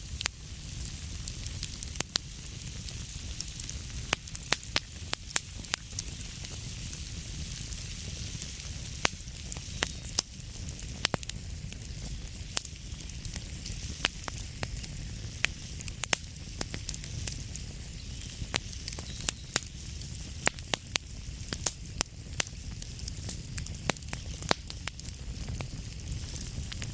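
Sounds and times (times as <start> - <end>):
wood fire crackling: 0.0 - 26.9.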